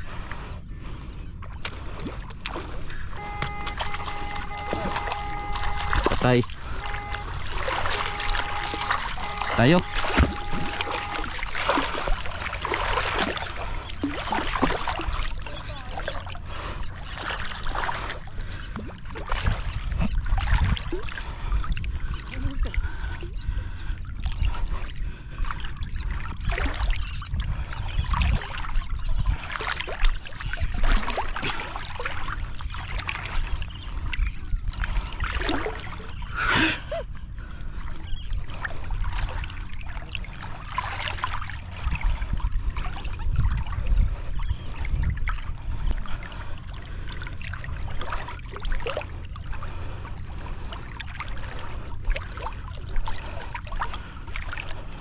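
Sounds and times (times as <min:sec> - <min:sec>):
water splashing and sloshing: 0:00.0 - 0:55.0.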